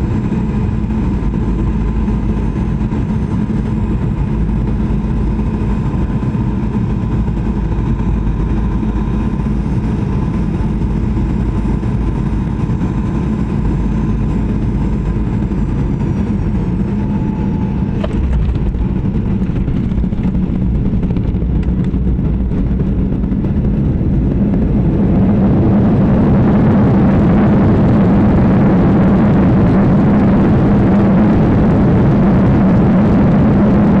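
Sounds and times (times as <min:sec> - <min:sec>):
aircraft droning: 0:00.0 - 0:34.0.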